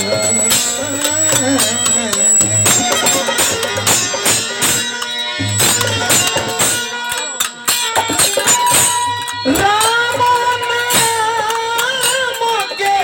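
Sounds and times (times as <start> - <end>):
percussion beat: 0.0 - 13.0.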